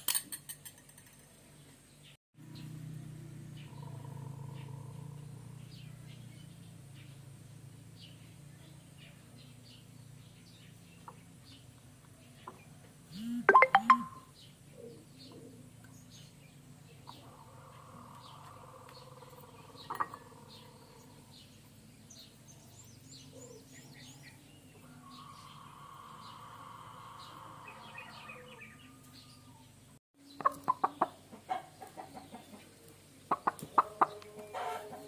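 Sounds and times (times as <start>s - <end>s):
birds chirping: 1.3s - 35.0s.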